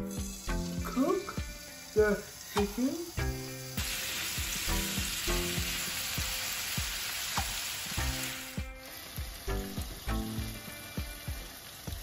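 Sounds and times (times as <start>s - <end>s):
background music with a beat: 0.0s - 12.0s
chicken sizzling in a frying pan: 0.0s - 12.0s.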